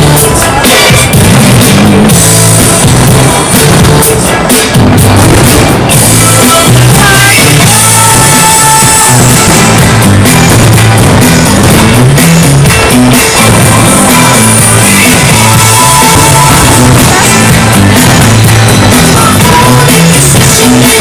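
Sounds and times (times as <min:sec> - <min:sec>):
loud rock music: 0:00.0 - 0:21.0
repeating bass line: 0:00.0 - 0:21.0.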